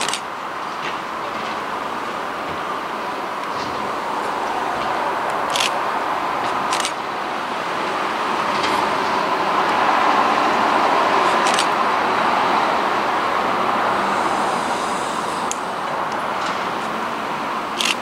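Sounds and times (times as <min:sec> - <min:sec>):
train rolling rumble: 0:00.0 - 0:18.0.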